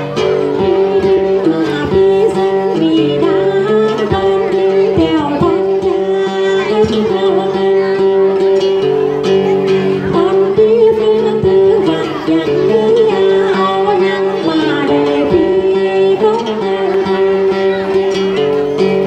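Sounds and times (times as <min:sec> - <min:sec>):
plucked long-necked lute: 0:00.0 - 0:19.0
woman singing wavering melody: 0:00.4 - 0:08.4, 0:10.0 - 0:18.1.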